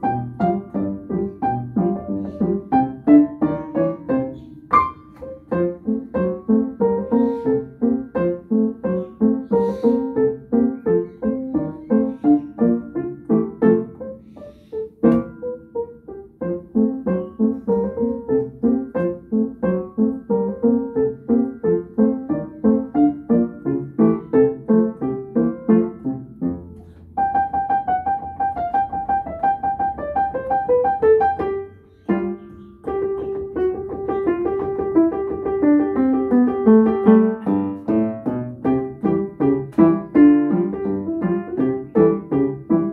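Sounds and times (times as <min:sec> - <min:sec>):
solo ragtime piano: 0:00.0 - 0:42.9.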